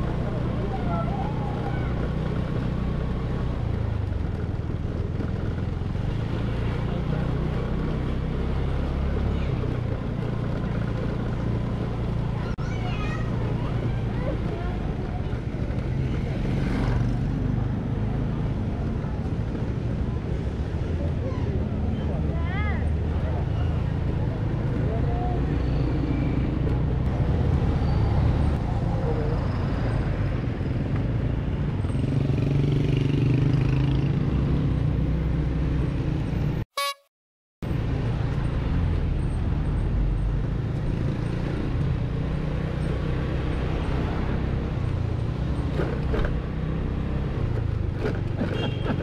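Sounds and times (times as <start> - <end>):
road rumble: 0.0 - 36.7, 37.6 - 49.0
traffic: 0.0 - 37.0, 37.6 - 49.0
wind: 0.0 - 37.0, 37.6 - 49.0.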